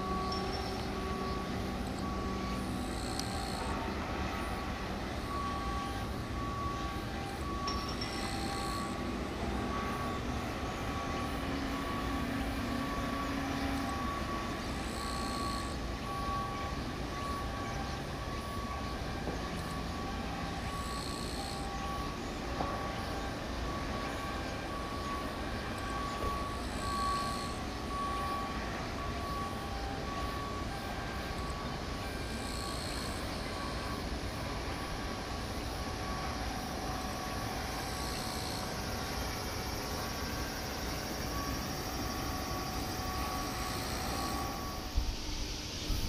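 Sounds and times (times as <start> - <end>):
faint beep: 0.0 - 46.0
shipyard rumbling: 0.0 - 46.0.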